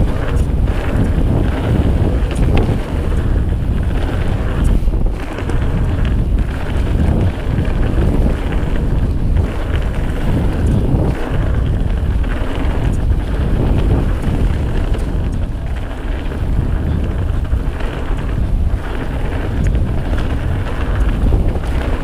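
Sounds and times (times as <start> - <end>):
tyres rolling over dirt: 0.0 - 22.0
wind buffeting microphone: 0.0 - 22.0.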